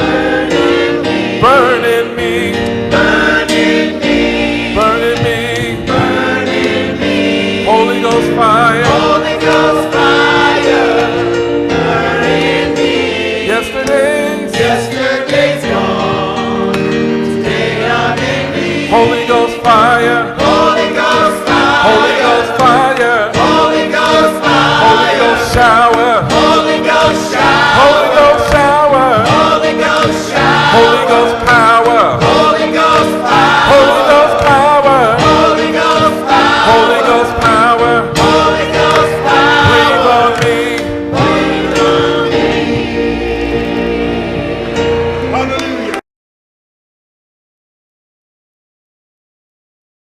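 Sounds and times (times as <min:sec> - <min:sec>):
choir singing gospel: 0:00.0 - 0:46.0
instrumental backing: 0:00.0 - 0:46.0.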